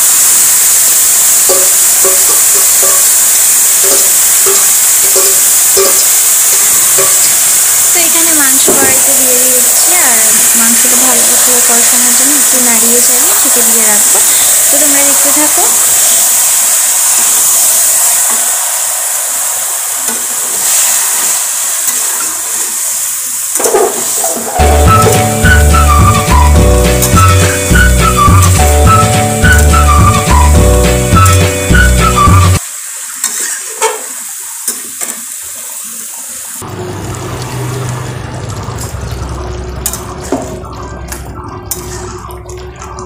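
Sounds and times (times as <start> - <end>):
chicken sizzling in hot oil: 0.0 - 42.9.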